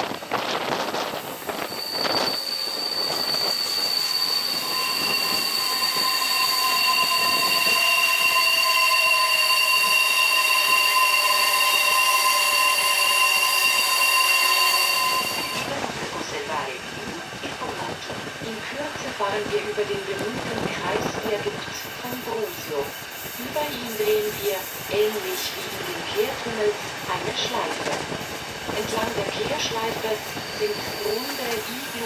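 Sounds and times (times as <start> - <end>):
train wheels squealing on track: 0.0 - 16.1, 20.6 - 32.0
train running noise: 0.0 - 32.0.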